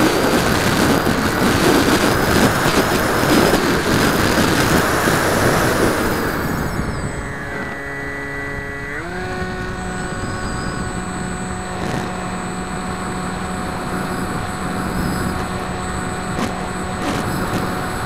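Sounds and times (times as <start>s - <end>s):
electric motor and propeller whining: 0.0s - 18.0s
wind noise on microphone: 0.0s - 18.0s.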